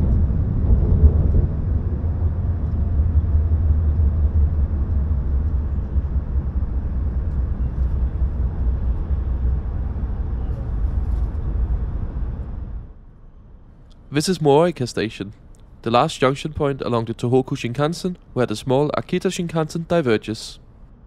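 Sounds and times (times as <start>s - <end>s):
high-speed train rumble: 0.0s - 21.0s.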